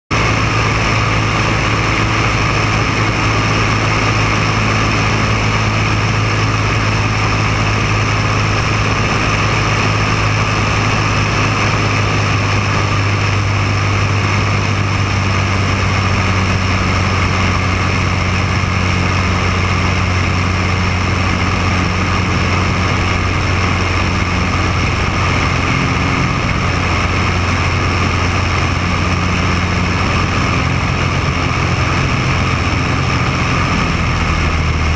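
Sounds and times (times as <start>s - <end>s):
propeller plane engine drone: 0.1s - 34.9s
rushing air: 0.1s - 34.9s.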